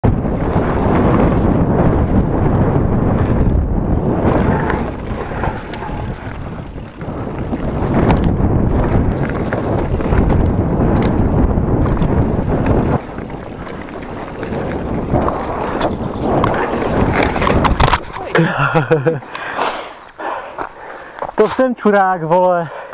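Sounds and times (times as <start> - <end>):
mountain bike rumbling and rattling: 0.0 - 22.9
wind buffeting microphone: 0.0 - 22.9.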